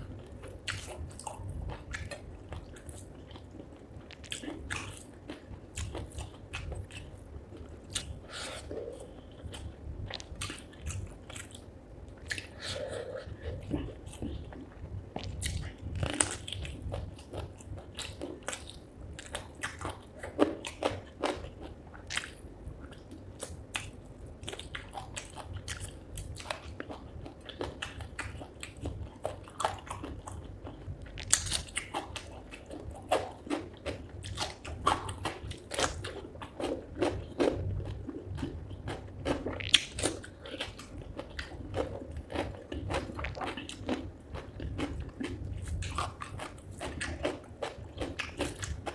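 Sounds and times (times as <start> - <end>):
chewing and crunching: 0.0 - 48.9.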